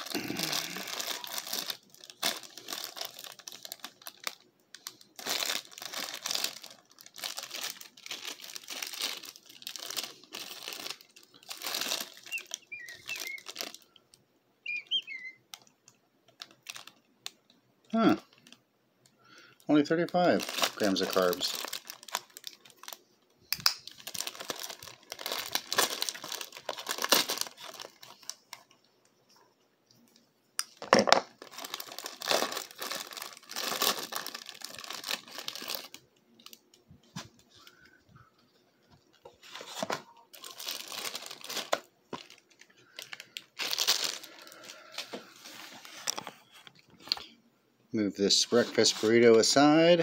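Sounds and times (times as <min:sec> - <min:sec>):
plastic wrapper crinkling and tearing: 0:00.0 - 0:18.6, 0:19.7 - 0:28.9, 0:30.1 - 0:38.0, 0:39.0 - 0:47.4, 0:48.3 - 0:50.0.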